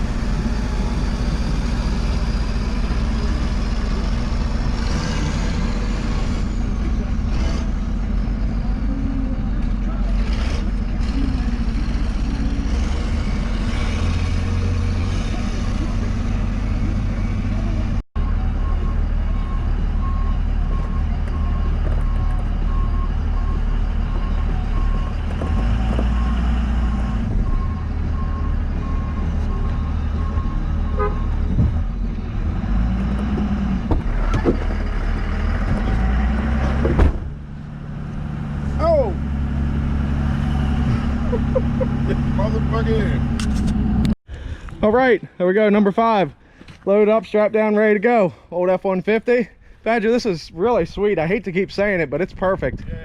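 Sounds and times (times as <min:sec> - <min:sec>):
truck engine running: 0:00.0 - 0:44.2.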